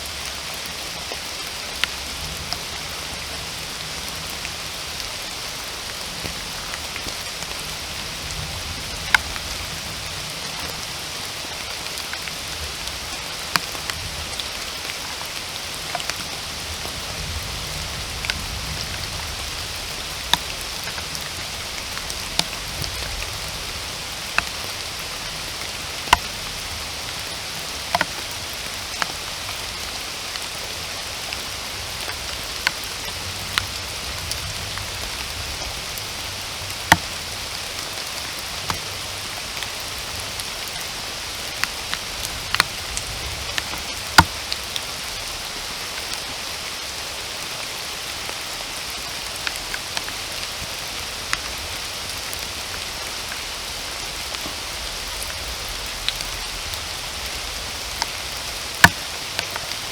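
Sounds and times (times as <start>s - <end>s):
heavy raindrops tapping: 0.0s - 46.8s, 48.1s - 59.9s
steady rain hiss: 0.0s - 59.9s.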